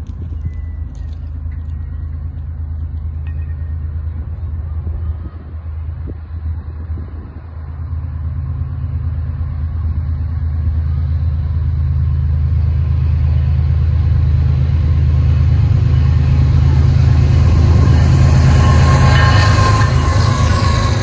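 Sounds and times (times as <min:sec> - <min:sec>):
diesel locomotive engine rumble: 0:00.0 - 0:21.0
wheel-on-rail noise: 0:00.0 - 0:21.0.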